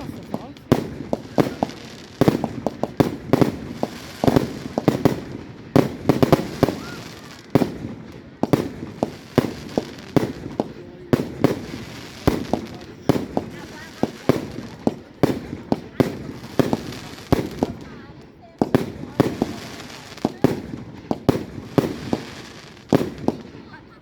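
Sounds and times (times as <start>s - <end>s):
fireworks bangs and cracks: 0.0s - 24.0s.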